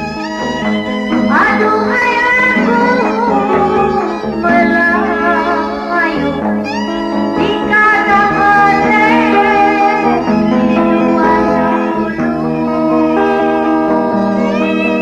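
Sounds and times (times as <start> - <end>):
folk music with sliding melody: 0.0 - 15.0.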